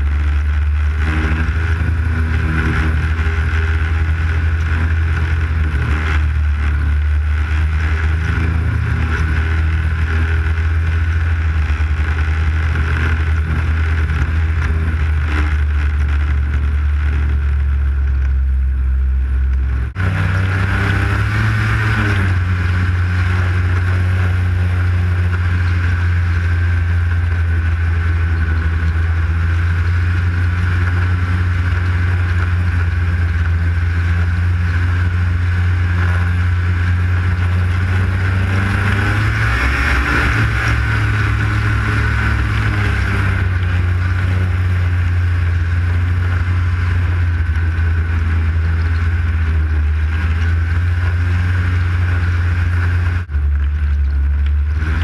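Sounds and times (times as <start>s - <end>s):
snowmobile engine drone: 0.0s - 55.0s.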